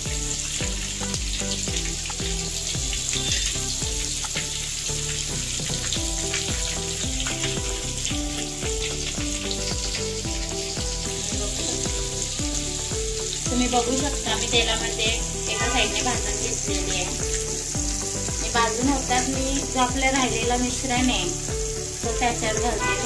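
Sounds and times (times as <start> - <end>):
background music: 0.0 - 23.0
food sizzling in hot oil: 0.0 - 23.0.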